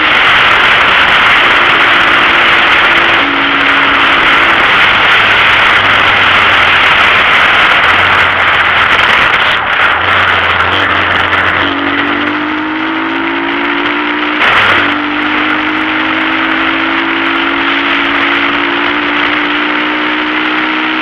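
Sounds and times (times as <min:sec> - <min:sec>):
low hum: 0:00.0 - 0:21.0
vehicle engine and rushing air: 0:00.0 - 0:21.0
low two-pitch tone: 0:01.2 - 0:07.0, 0:07.7 - 0:21.0.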